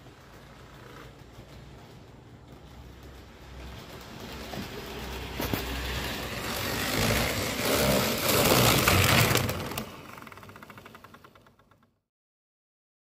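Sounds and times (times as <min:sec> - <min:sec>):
model train rumbling on rails: 0:00.0 - 0:11.9.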